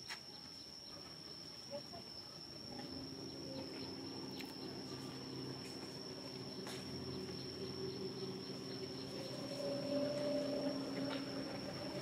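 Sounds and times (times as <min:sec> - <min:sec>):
high-pitched insect trill: 0:00.0 - 0:12.0
low steady hum: 0:02.2 - 0:12.0.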